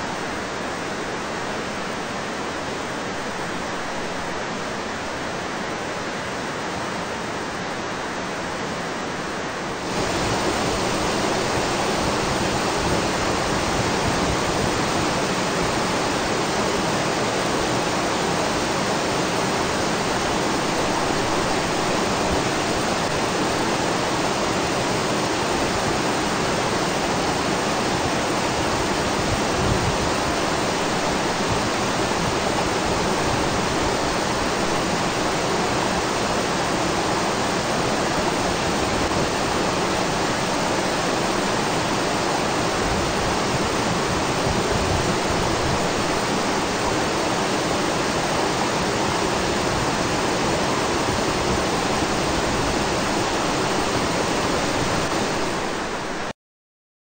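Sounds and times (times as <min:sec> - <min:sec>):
stream rushing loudly: 0:00.0 - 0:56.3.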